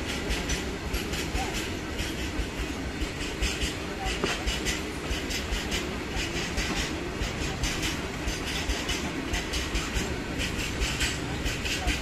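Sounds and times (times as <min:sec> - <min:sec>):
train rumble: 0:00.0 - 0:12.0
train wheels clacking: 0:00.0 - 0:12.0.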